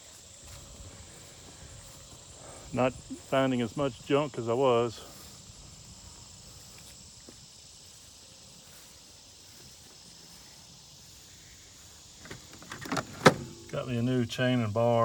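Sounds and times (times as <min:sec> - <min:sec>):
insect chirring: 0:00.0 - 0:14.2.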